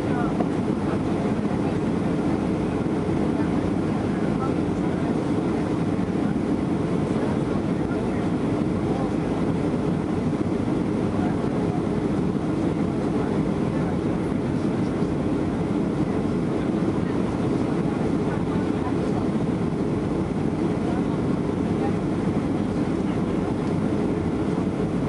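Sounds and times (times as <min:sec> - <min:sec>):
airplane cabin engine roar: 0:00.0 - 0:25.0.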